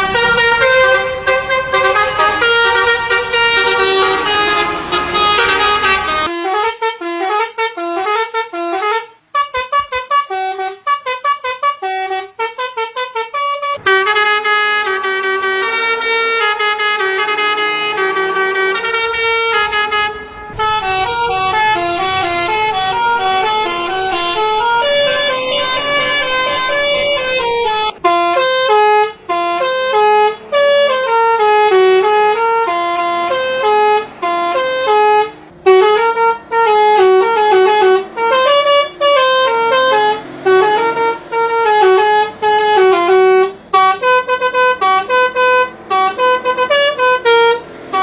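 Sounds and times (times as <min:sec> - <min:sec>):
musical bus air horns: 0:00.0 - 0:48.0.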